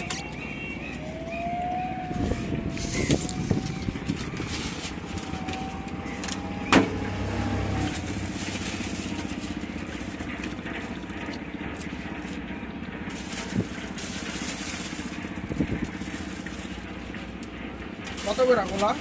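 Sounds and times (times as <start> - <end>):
engine hum and whine: 0.0 - 19.0
street traffic: 0.0 - 19.0.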